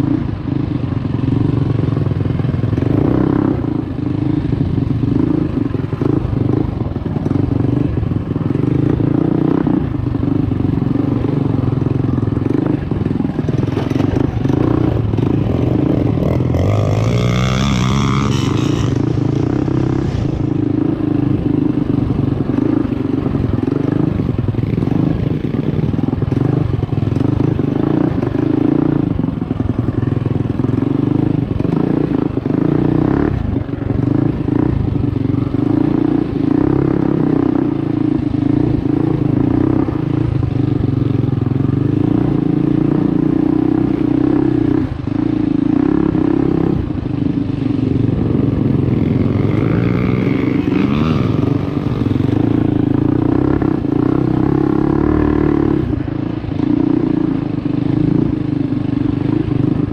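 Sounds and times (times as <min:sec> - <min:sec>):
mini bike engine running: 0:00.0 - 0:59.9.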